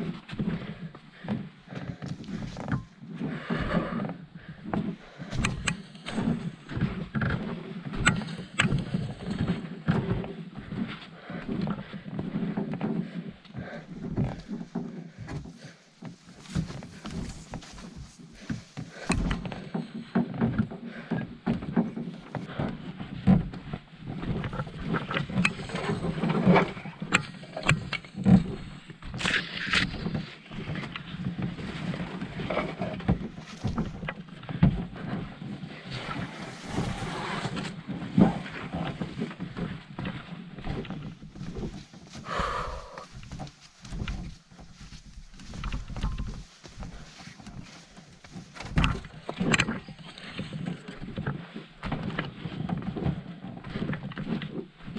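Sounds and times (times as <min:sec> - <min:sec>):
water against hull: 0:00.0 - 0:54.9.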